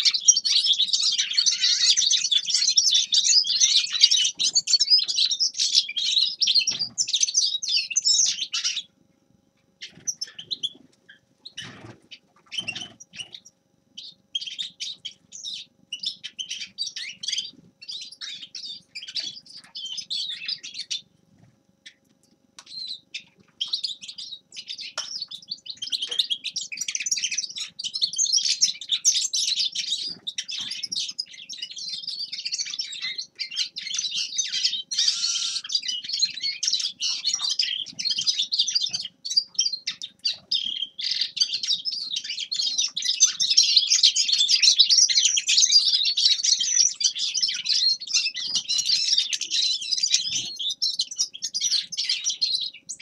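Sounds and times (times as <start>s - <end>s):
finch singing: 0.0s - 9.0s, 9.8s - 21.2s, 21.8s - 53.0s.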